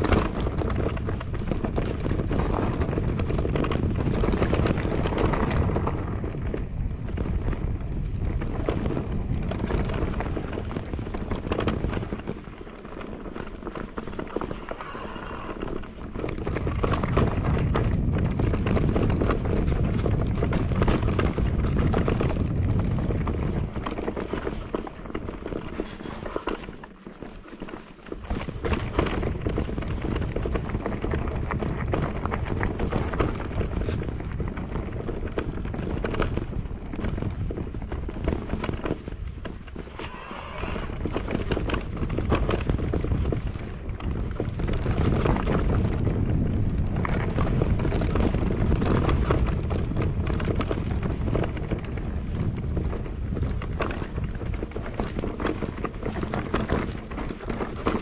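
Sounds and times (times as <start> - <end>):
bike rattling: 0.0 - 58.0
tyres crunching over stones: 0.0 - 58.0.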